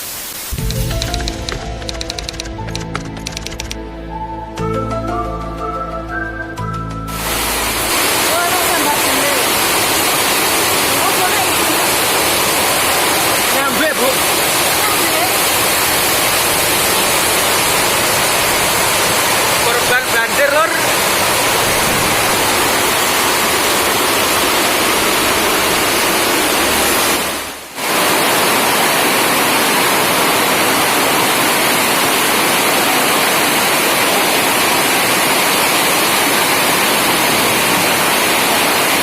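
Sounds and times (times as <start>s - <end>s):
heavy rain pouring: 0.0s - 3.8s, 7.1s - 39.0s.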